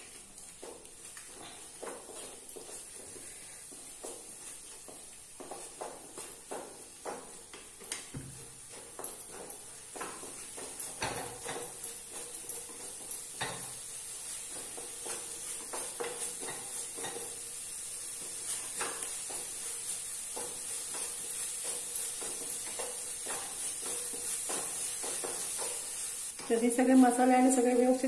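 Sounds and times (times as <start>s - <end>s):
paste sizzling in oil: 0.0s - 28.0s
wooden spatula scraping a pan: 0.7s - 28.0s.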